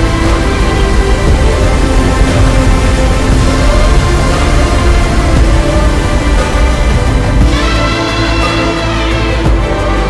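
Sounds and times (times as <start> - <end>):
heavy bass: 0.0 - 10.0
orchestral score: 0.0 - 10.0.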